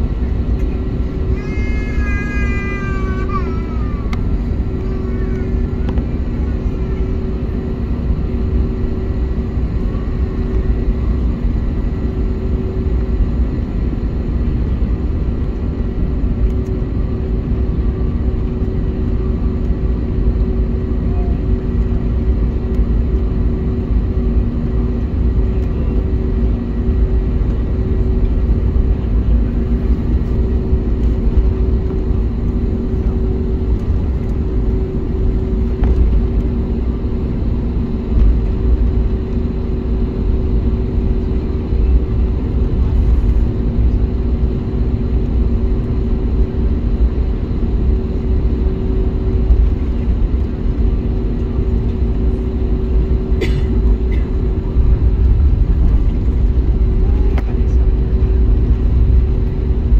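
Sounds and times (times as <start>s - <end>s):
droning hums: 0.0s - 59.9s
jet engines low rumble: 0.0s - 59.9s.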